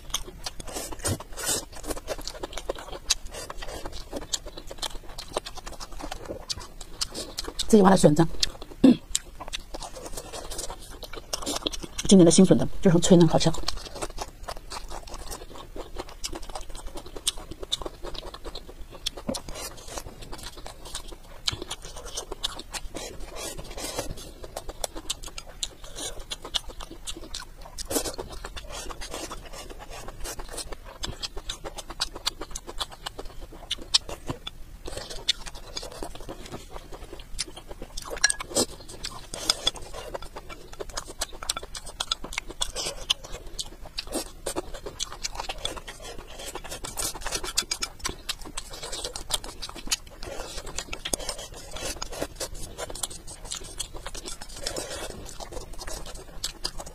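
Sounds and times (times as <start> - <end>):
crunchy chewing: 0.0 - 56.9.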